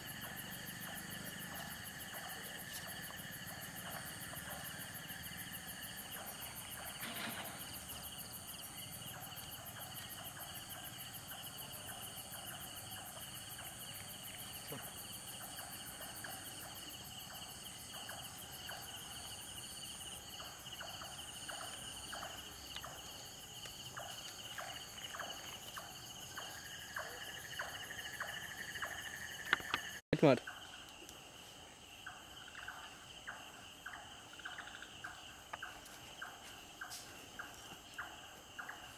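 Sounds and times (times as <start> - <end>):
insects trilling and chirping: 0.0 - 38.9.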